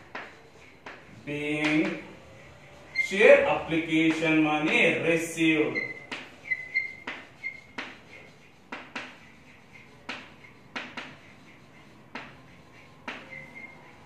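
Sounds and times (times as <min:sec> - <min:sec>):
chalk tapping and scratching: 0:00.0 - 0:14.0.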